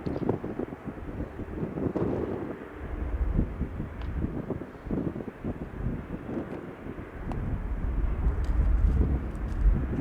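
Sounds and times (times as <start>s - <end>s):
jet aircraft rumble: 0.0s - 10.0s
wind buffeting microphone: 0.0s - 10.0s.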